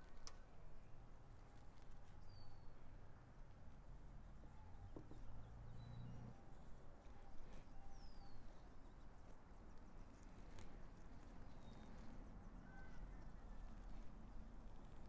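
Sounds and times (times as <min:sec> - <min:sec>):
faint bird chirps: 0:00.0 - 0:03.0, 0:04.4 - 0:15.0
soft rustling: 0:00.0 - 0:15.0.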